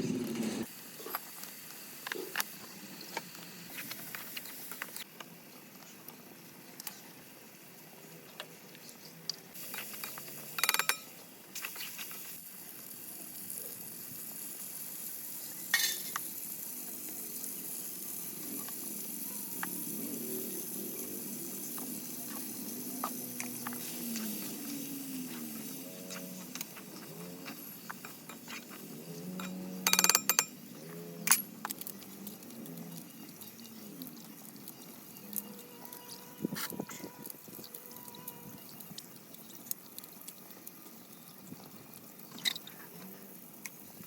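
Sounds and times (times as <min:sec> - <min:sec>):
food sizzling in hot oil: 0:00.6 - 0:08.2, 0:08.9 - 0:44.0.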